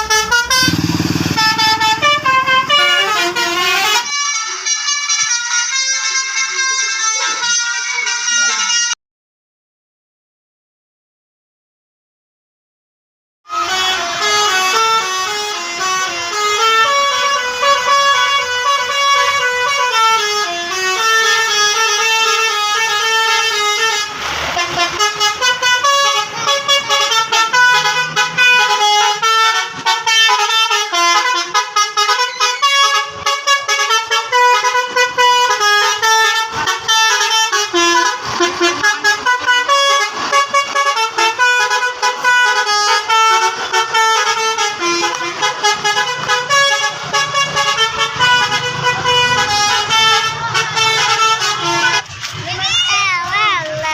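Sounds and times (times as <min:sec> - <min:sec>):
multi-tone bus horn tune: 0:00.0 - 0:09.0, 0:13.5 - 0:52.4.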